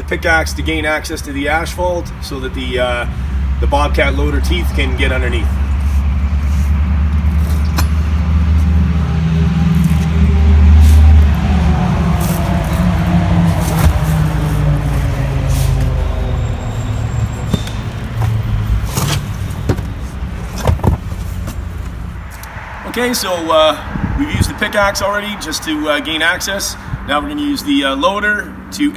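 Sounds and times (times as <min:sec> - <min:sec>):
engine humming: 0:00.0 - 0:28.9.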